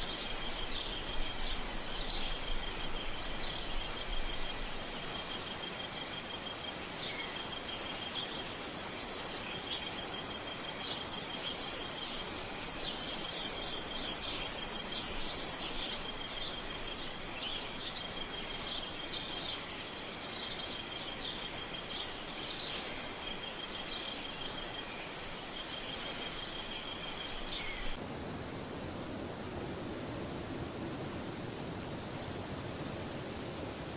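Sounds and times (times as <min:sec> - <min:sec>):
pulsing high-pitched insect buzz: 0:00.0 - 0:28.0
steady insect trill: 0:00.0 - 0:28.0.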